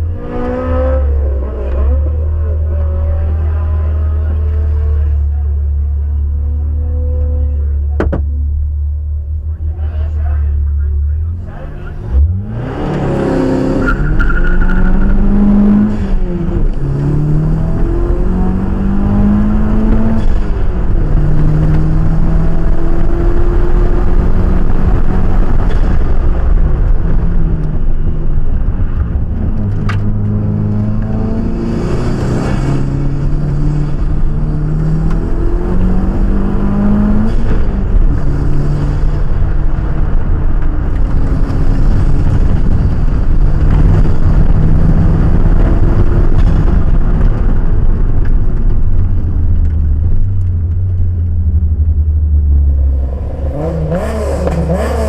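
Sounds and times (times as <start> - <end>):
car engine accelerating hard: 0.0 - 8.0, 9.3 - 55.0.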